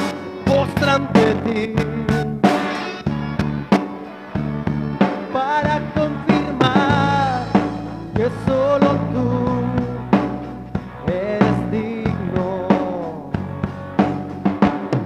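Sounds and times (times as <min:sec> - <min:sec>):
drum kit beat: 0:00.0 - 0:15.0
live band playing: 0:00.0 - 0:15.0.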